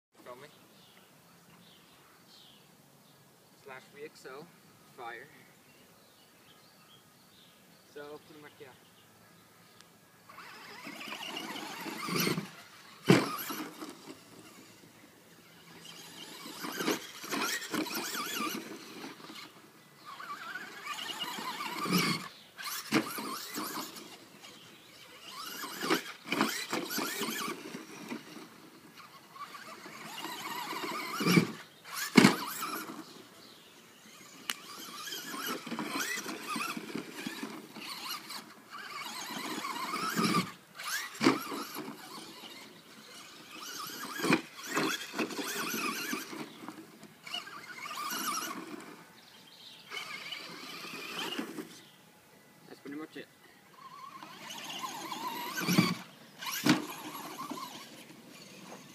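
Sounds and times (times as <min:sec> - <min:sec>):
rc truck electric motor whining: 0:10.2 - 0:52.1, 0:53.1 - 0:58.9.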